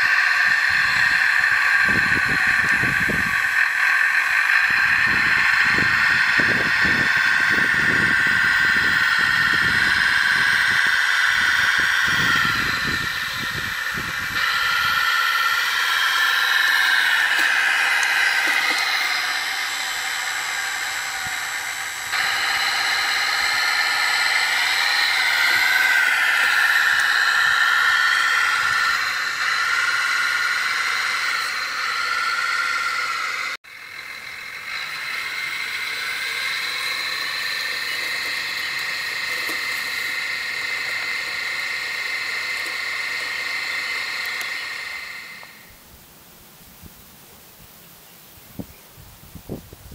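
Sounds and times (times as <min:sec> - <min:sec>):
simulated tractor engine sound: 0:00.0 - 0:46.2.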